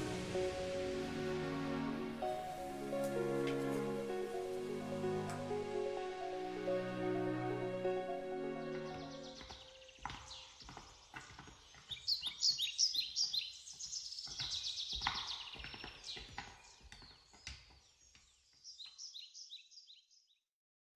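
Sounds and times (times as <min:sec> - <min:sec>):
songbird chirping: 0:00.0 - 0:20.4.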